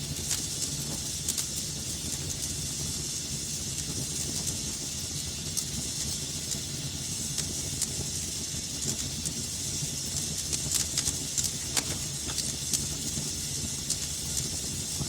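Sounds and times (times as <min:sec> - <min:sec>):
fire crackling and popping: 0:00.0 - 0:15.0
fire hissing and rumbling: 0:00.0 - 0:15.0.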